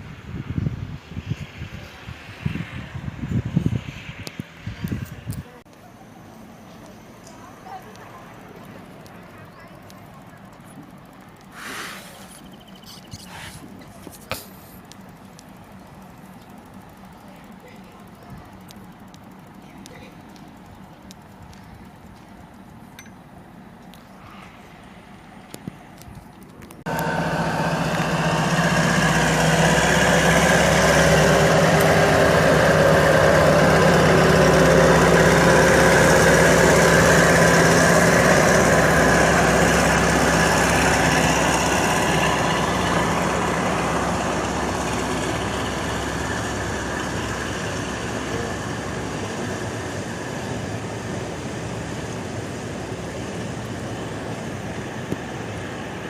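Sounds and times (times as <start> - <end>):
diesel train engine running: 0.0 - 56.0.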